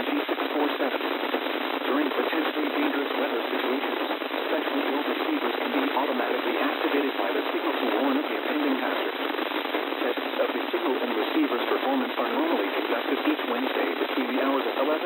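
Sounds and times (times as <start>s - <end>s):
faint voice on radio: 0.0s - 15.0s
radio static hiss: 0.0s - 15.0s.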